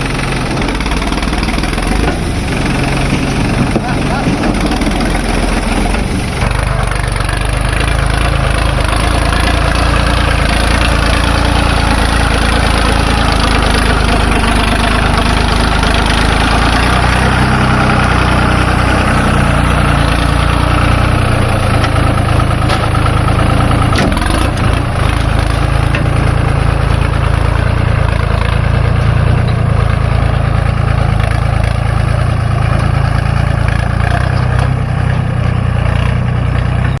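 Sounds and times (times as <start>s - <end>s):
diesel engine running loudly: 0.0s - 37.0s.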